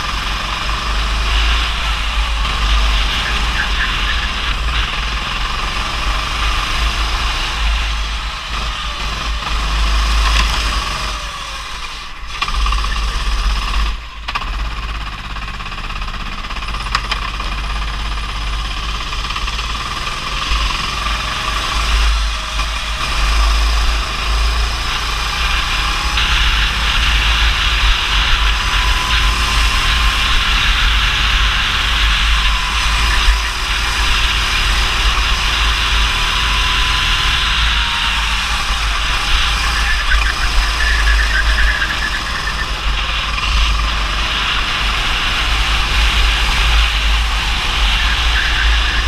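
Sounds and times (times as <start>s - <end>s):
go-kart engine running: 0.0s - 49.0s.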